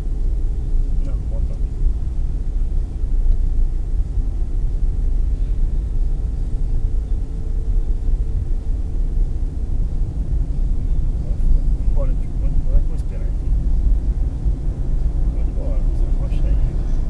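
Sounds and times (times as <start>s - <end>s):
car engine and tyres rumbling: 0.0s - 17.0s
faint steady hum: 0.0s - 17.0s.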